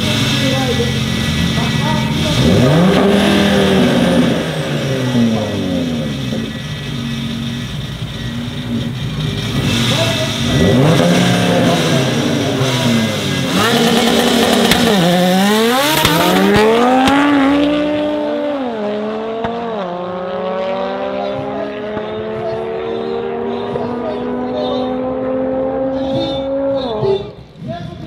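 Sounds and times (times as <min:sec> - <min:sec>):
cars accelerating hard: 0:00.0 - 0:27.8
car engines revving: 0:00.0 - 0:28.0.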